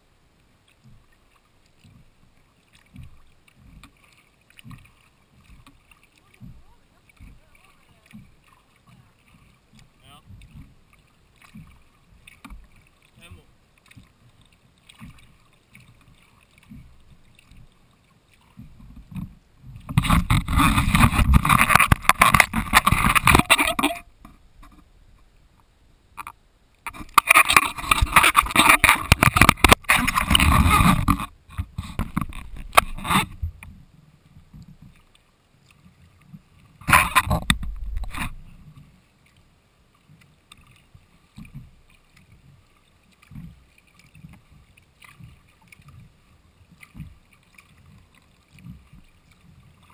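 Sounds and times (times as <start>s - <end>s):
faint water sounds: 0.0s - 49.9s
paddle strokes at hull: 0.0s - 49.9s.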